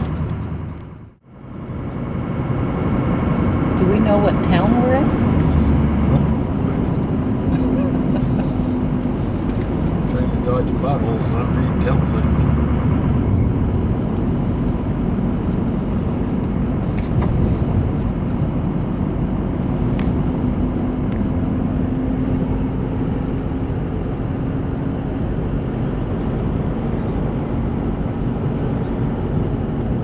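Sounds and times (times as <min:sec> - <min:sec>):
engine hum: 0:00.0 - 0:30.0
tyre rumble on highway: 0:04.9 - 0:30.0.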